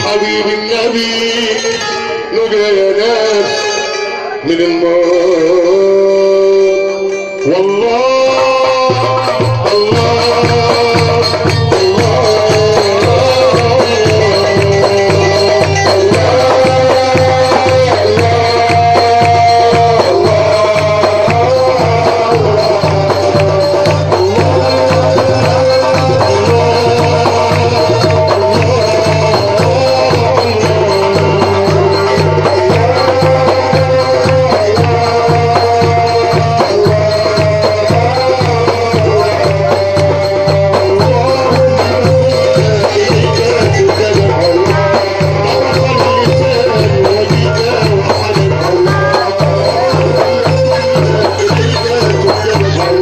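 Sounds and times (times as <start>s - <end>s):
folk ensemble melody: 0.0s - 53.0s
rattling hand percussion: 5.1s - 53.0s.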